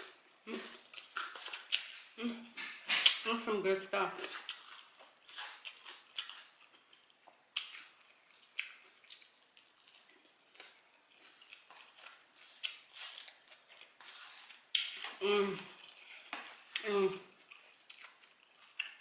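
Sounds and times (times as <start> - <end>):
person chewing food: 0.0 - 3.2, 4.2 - 19.0.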